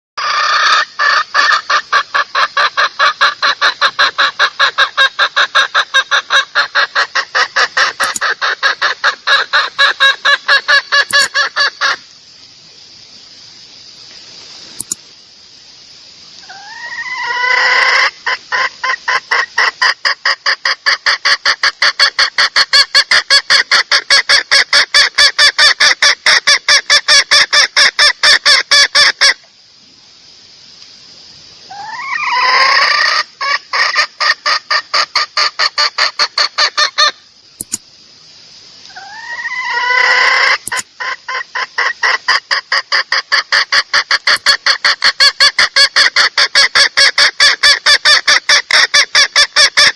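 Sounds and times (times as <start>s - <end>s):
junglefowl hen calls: 0.2s - 12.2s, 16.4s - 29.5s, 31.7s - 37.8s, 38.8s - 49.9s.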